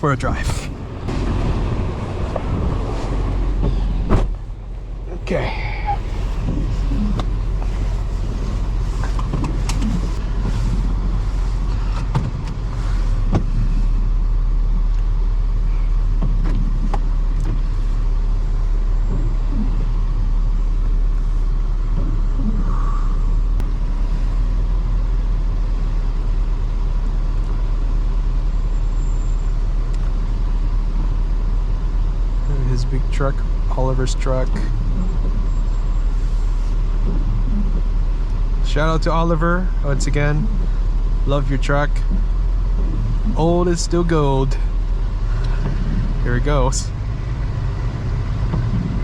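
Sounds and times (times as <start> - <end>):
car engine: 0.0 - 49.0
road rumble: 0.0 - 49.0.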